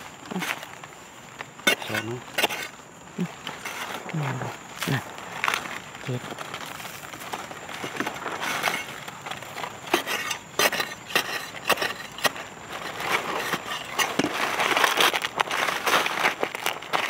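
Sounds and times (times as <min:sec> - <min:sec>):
hand tool digging in dry soil: 0:00.0 - 0:17.0.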